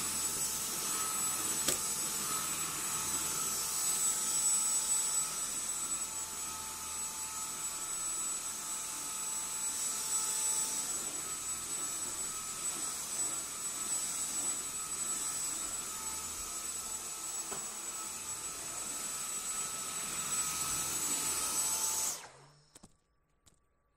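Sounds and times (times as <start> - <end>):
vacuum cleaner running: 0.0 - 22.7.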